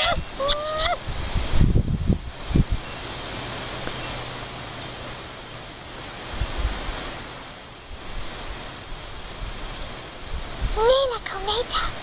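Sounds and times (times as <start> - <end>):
background hiss: 0.0 - 12.0
insects chirping high trill: 0.0 - 12.0.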